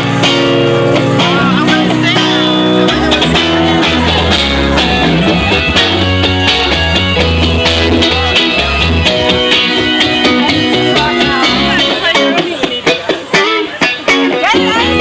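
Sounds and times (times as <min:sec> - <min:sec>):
live pop-rock band playing: 0:00.0 - 0:15.0.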